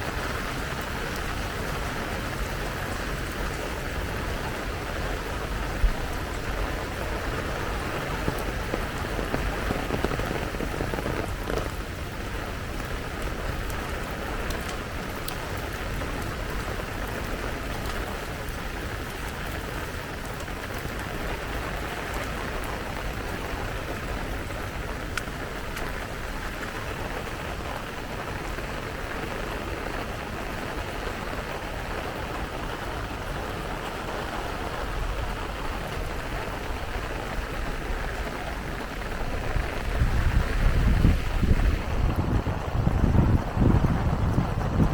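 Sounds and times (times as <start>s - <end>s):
steady rain patter: 0.0s - 44.9s.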